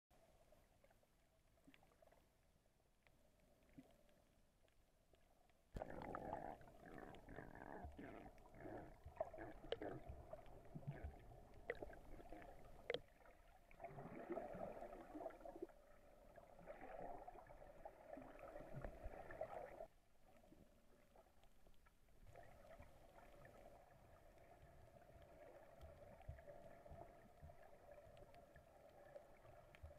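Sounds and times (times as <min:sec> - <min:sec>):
muffled underwater ambience: 0:03.2 - 0:29.9.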